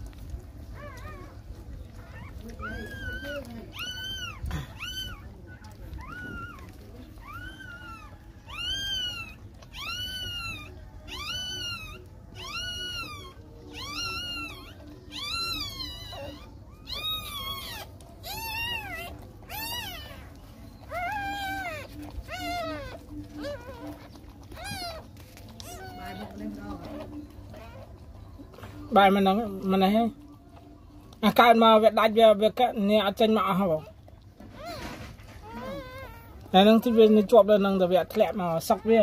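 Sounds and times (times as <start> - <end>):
puppies crying: 0.0 - 39.0.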